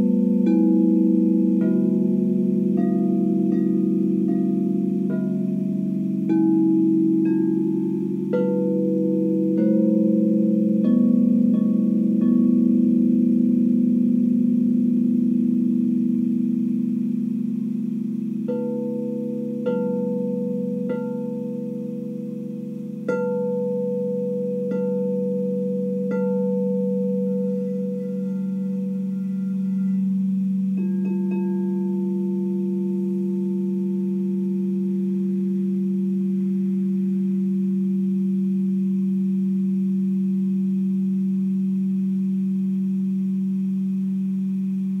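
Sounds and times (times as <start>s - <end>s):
crystal singing bowls ringing: 0.0s - 45.0s.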